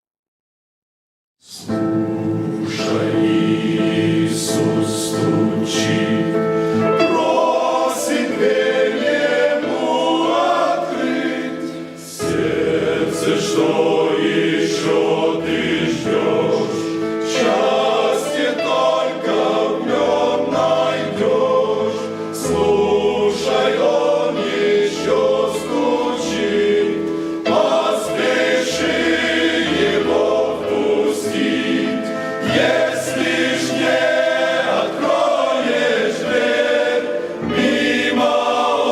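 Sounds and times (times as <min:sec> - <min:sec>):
group singing worship song: 0:01.4 - 0:38.9
instrumental accompaniment: 0:01.5 - 0:38.9.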